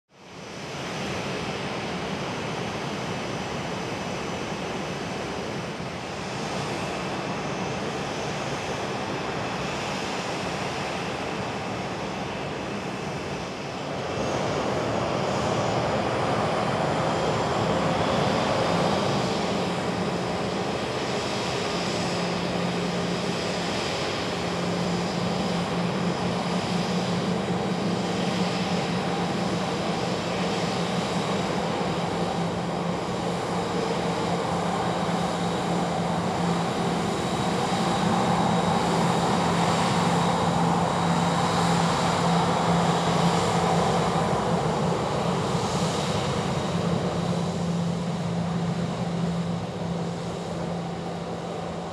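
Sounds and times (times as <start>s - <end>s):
jet engines taxiing: 0.2s - 51.9s.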